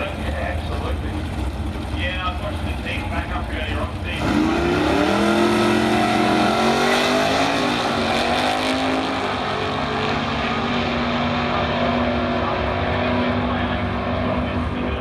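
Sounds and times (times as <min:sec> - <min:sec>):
drag racing car engine full throttle: 0:00.0 - 0:15.0.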